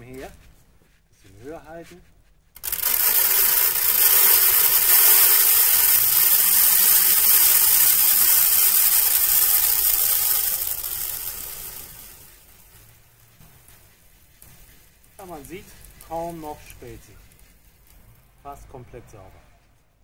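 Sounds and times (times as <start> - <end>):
grain pouring and pattering: 2.5 - 18.9.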